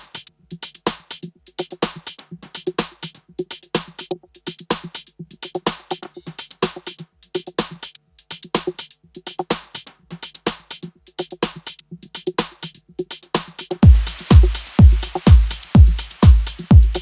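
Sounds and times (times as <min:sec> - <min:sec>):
drum machine beat: 0:00.0 - 0:17.0.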